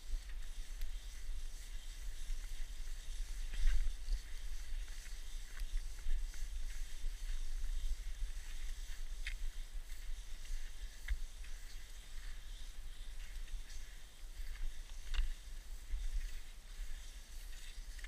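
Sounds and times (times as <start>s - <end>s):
skis gliding over snow: 0.0s - 18.0s
wind rumble on microphone: 0.0s - 18.0s.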